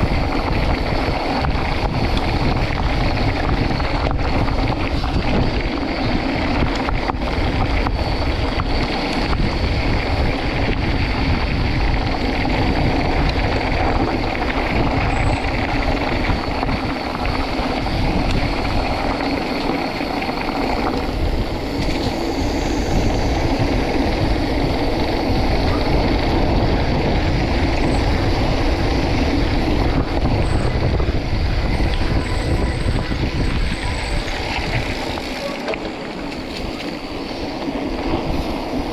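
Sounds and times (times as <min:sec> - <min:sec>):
wind rushing on microphone: 0:00.0 - 0:38.9.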